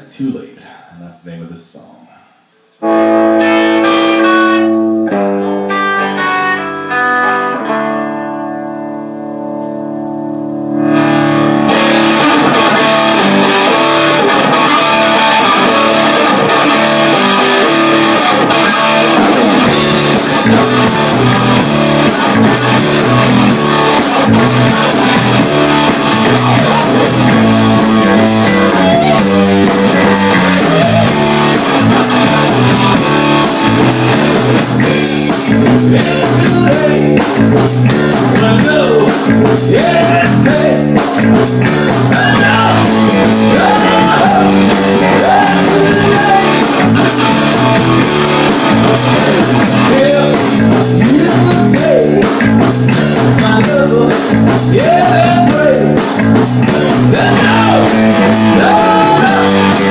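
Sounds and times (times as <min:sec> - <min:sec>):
electric guitar ringing chords: 0:02.8 - 0:59.9
rock band playing live: 0:02.8 - 0:59.9.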